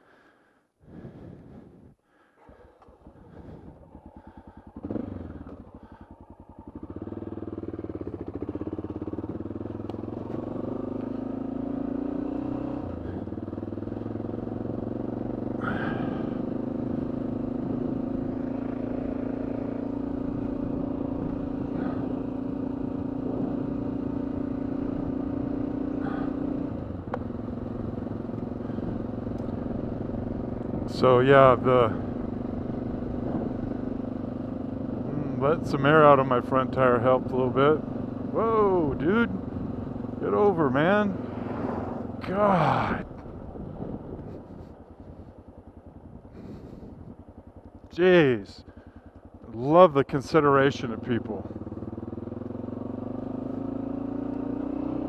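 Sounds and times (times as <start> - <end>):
motorcycle engine pulling away: 1.0 - 48.0, 48.6 - 55.0.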